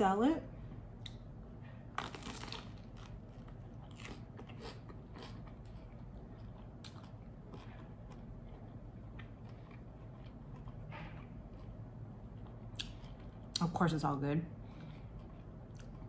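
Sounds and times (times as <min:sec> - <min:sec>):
crunchy bread bite and chewing: 0:01.9 - 0:13.7, 0:14.8 - 0:16.0
crisp chewing crunches: 0:02.0 - 0:13.7, 0:14.7 - 0:16.0.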